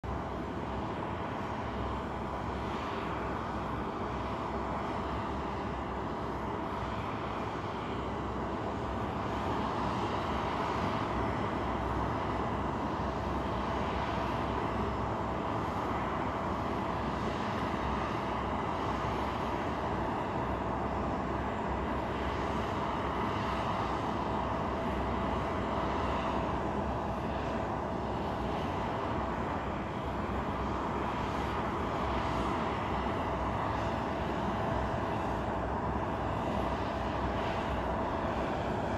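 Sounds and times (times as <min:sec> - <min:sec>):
jet aircraft rush and whine: 0:00.0 - 0:38.9.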